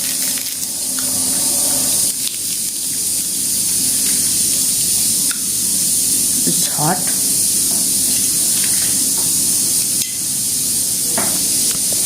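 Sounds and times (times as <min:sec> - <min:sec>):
oil sizzling in a hot pan: 0:00.0 - 0:12.0.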